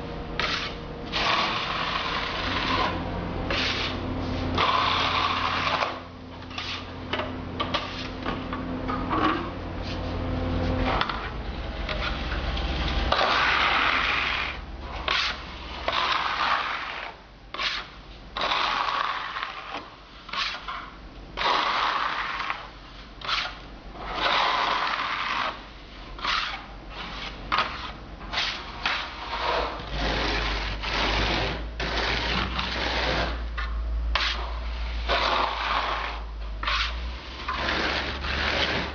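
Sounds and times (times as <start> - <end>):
hand float scraping render: 0.4 - 8.4, 13.1 - 38.9.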